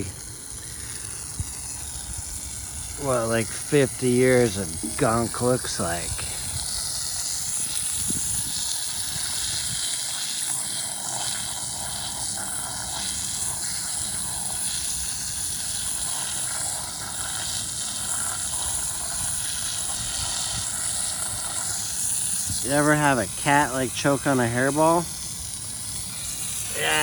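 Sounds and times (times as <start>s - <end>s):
steady hissing noise: 0.0s - 27.0s.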